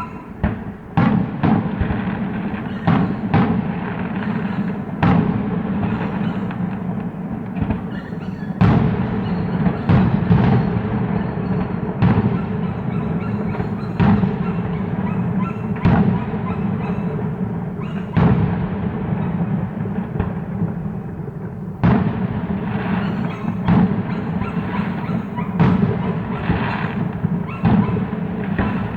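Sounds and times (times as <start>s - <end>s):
fireworks booming: 0.0s - 28.9s.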